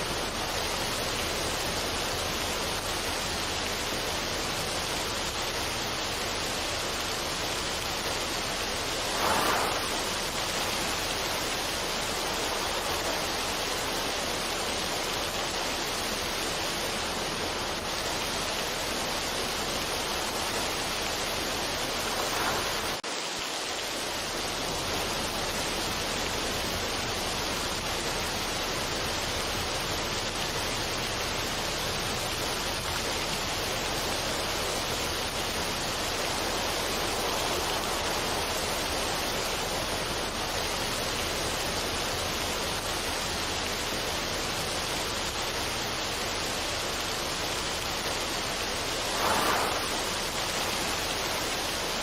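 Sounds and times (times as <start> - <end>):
steady rushing noise: 0.0 - 29.8, 30.7 - 43.0, 45.3 - 52.0.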